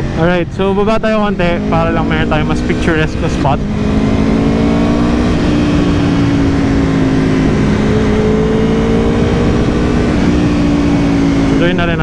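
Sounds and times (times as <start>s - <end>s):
motorcycle engine while riding: 0.0s - 12.0s
wind noise: 0.0s - 12.0s.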